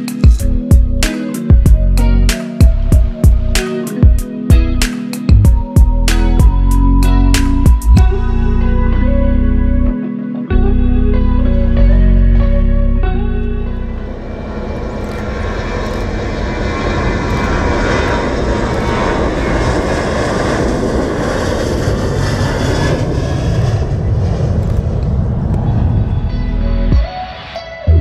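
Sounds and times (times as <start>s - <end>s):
aircraft engines running: 0.0s - 27.6s.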